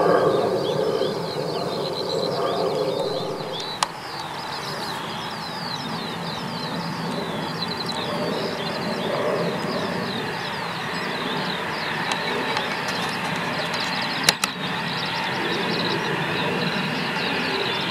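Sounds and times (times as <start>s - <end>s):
birds chirping: 0.0s - 17.9s
jet engines rumbling: 0.0s - 17.9s.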